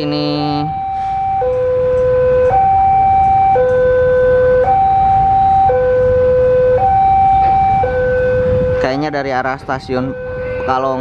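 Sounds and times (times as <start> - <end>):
level-crossing alarm two tones: 0.0 - 11.0.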